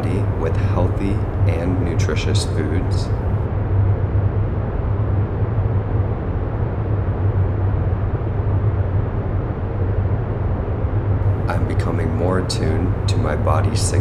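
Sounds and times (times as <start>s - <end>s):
steady low rumbling noise: 0.0s - 14.0s.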